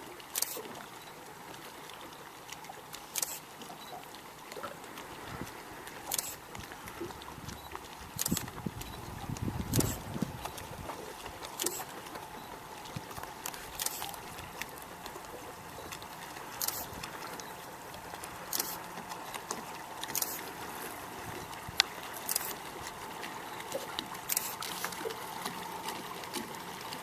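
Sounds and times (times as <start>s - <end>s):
faint steady hum: 0.0s - 27.0s
water splashing against boat hull: 0.0s - 27.0s.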